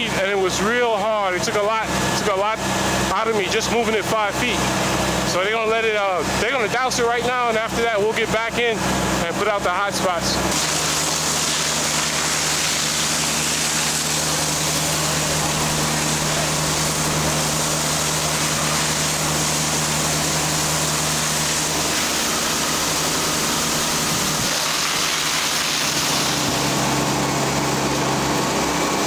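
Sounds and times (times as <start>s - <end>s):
fire engine pump droning: 0.0s - 29.0s
water rushing from hoses: 0.0s - 29.0s.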